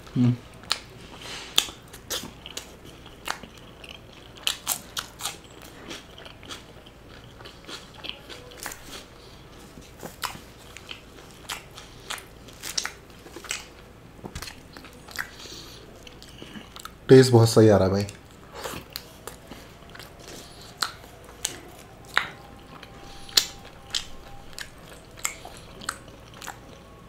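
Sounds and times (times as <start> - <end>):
close-miked chewing: 0.0 - 17.1, 17.9 - 27.0.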